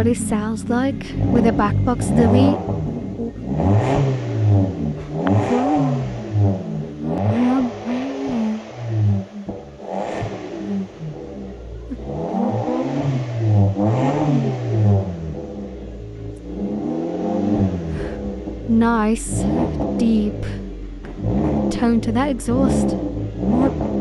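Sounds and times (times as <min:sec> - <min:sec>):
car engine revving with deep exhaust: 0:00.0 - 0:24.0.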